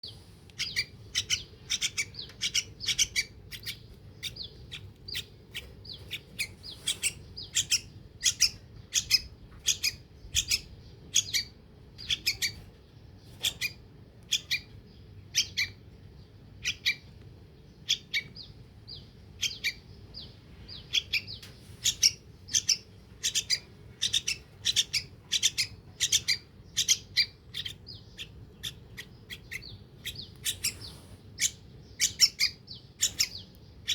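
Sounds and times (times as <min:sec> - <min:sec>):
bird chick begging chirps: 0:00.0 - 0:15.9, 0:16.5 - 0:33.9.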